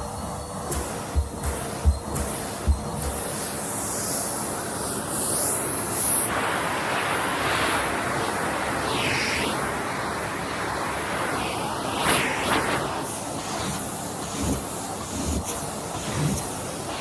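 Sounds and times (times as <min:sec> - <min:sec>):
vacuum cleaner suction hiss: 0:00.0 - 0:17.0.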